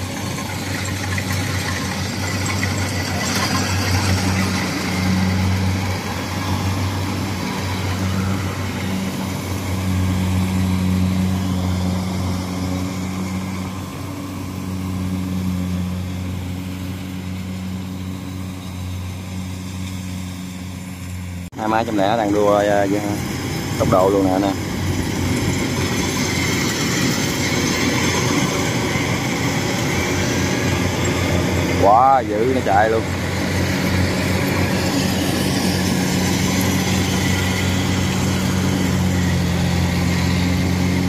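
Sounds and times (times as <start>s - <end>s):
diesel engine drone: 0.0s - 41.0s
whirr of machinery: 0.0s - 41.0s.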